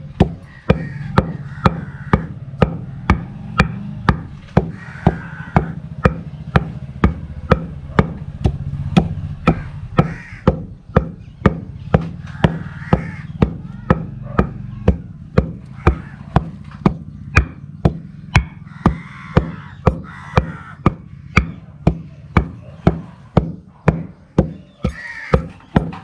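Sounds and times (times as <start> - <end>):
pestle pounding in mortar: 0.0 - 26.0.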